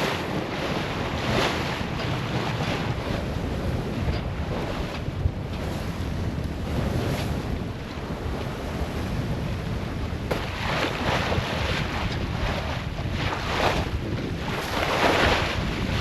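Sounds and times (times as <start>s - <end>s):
water rushing along hull: 0.0s - 16.0s
water splashing against boat: 0.0s - 16.0s
wind buffeting microphone: 0.0s - 16.0s.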